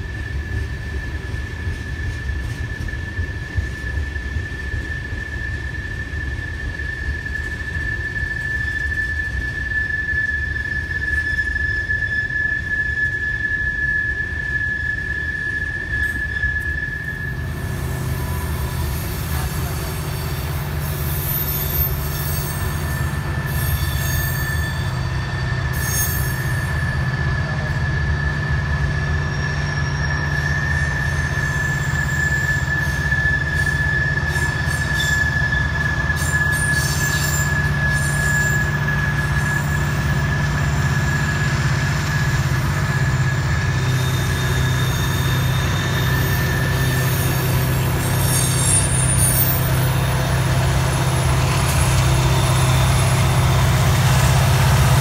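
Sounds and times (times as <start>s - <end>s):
steel wheels squealing on rails: 0.0s - 55.0s
train rumble: 0.0s - 55.0s.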